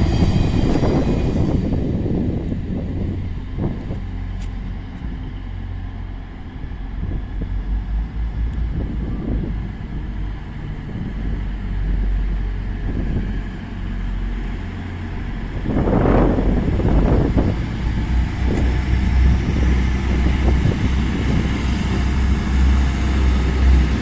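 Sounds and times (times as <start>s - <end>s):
passenger train rumbling: 0.0s - 24.0s
wind buffeting microphone: 0.0s - 24.0s.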